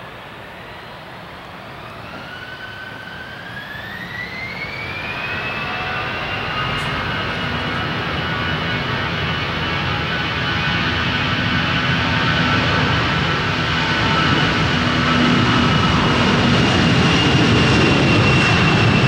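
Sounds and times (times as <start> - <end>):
jet engines spooling up: 0.0 - 19.0.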